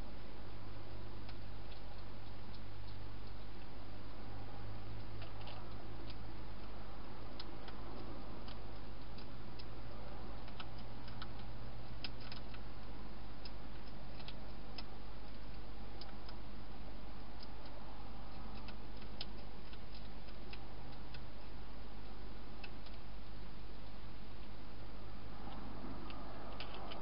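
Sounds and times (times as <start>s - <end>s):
microphone hiss and hum: 0.0s - 27.0s
hedgehog chewing dry food: 0.2s - 27.0s.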